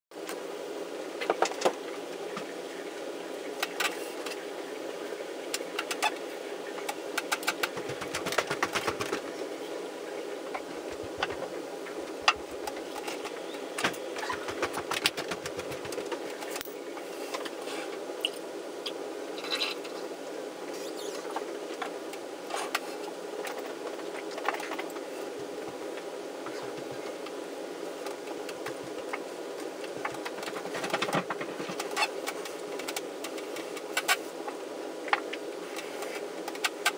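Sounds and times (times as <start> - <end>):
steady mechanical hum: 0.1 - 36.9.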